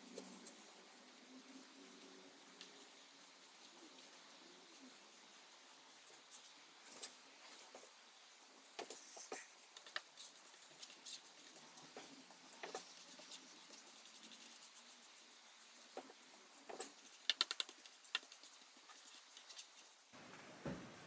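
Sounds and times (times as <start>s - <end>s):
brush brushing on wood: 0.0s - 20.2s.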